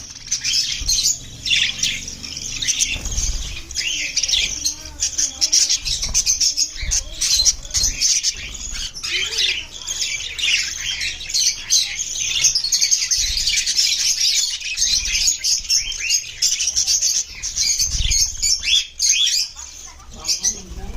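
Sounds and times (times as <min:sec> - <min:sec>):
budgerigars chirping and warbling: 0:00.0 - 0:20.9.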